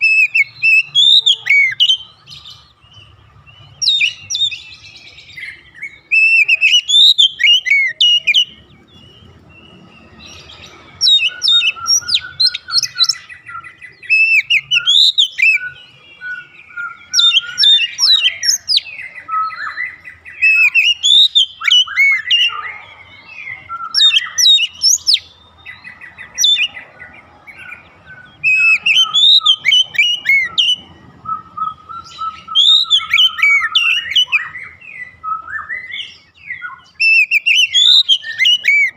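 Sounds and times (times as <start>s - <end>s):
songbird whistling phrases: 0.0s - 3.0s, 3.6s - 9.3s, 10.1s - 38.9s.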